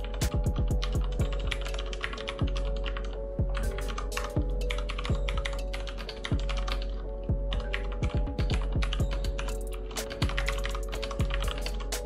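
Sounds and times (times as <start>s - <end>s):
background music with steady beat: 0.0s - 12.0s
mechanical keyboard typing: 0.0s - 12.0s.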